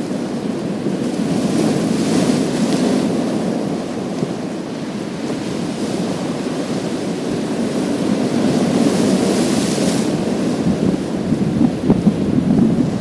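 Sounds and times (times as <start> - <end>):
waves washing over pebble beach: 0.0 - 13.0.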